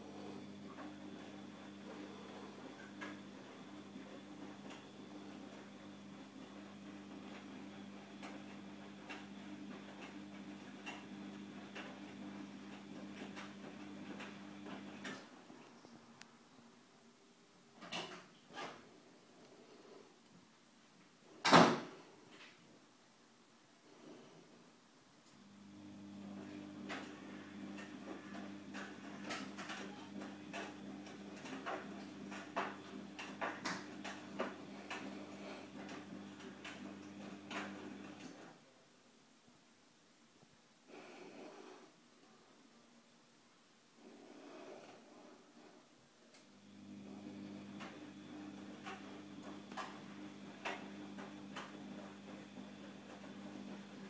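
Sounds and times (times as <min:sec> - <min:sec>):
faint electrical hum: 0:00.0 - 0:54.0.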